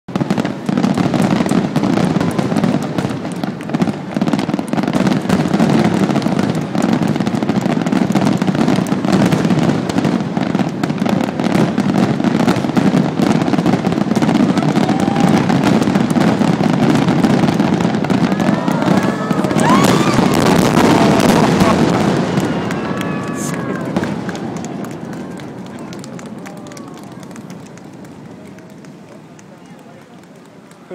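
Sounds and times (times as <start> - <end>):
fireworks bangs and crackles: 0.1 - 30.9.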